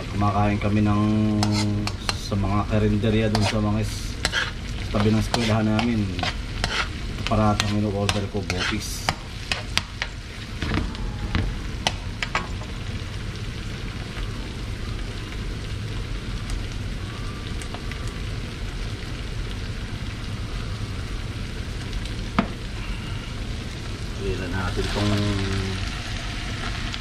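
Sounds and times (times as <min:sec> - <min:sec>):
onions frying in oil: 0:00.0 - 0:27.0.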